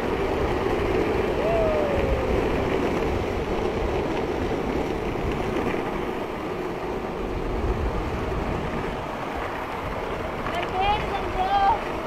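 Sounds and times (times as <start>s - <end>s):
skateboard wheels rolling on asphalt: 0.0s - 12.0s
wind rushing over microphone: 0.0s - 12.0s.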